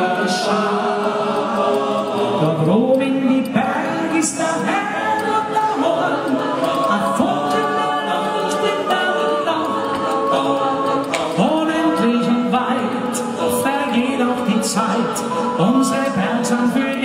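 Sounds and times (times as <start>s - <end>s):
choir yodeling a cappella: 0.0s - 17.0s.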